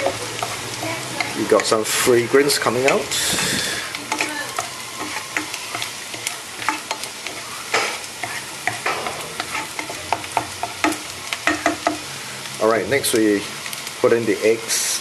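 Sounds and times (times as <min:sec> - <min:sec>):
spatula scraping pan: 0:00.0 - 0:12.1
garlic sizzling in hot oil: 0:00.0 - 0:15.0.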